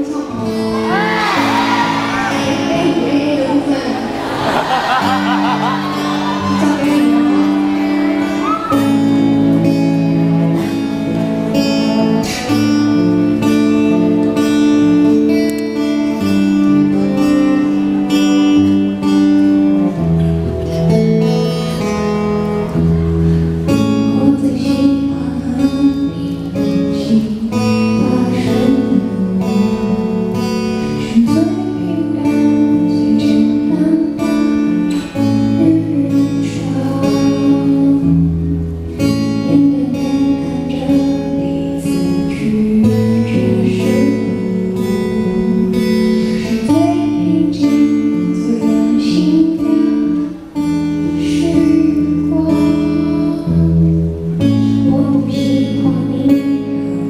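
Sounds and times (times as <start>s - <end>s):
woman singing: 0.0s - 4.2s, 5.0s - 10.9s, 11.5s - 19.2s, 23.7s - 57.0s
strummed acoustic guitar: 0.0s - 57.0s.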